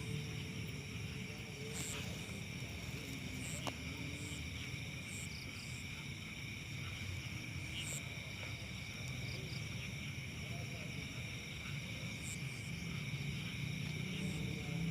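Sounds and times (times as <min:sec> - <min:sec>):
crickets chirring: 0:00.0 - 0:14.9.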